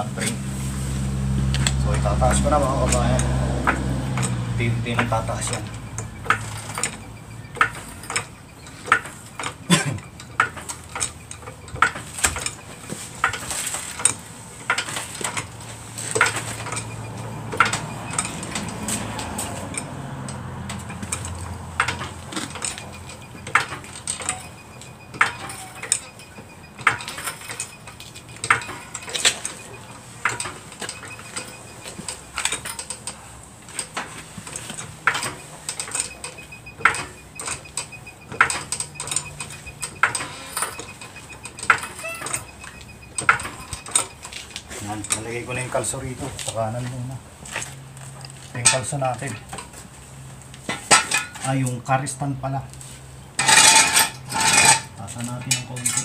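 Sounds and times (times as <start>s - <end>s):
floor jack clicking and clanking: 1.4s - 49.9s, 50.5s - 51.8s, 53.4s - 56.0s.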